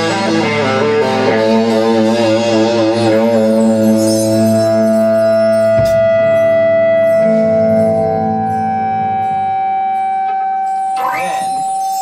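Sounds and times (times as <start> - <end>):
electric guitars sustained notes: 0.0 - 12.0.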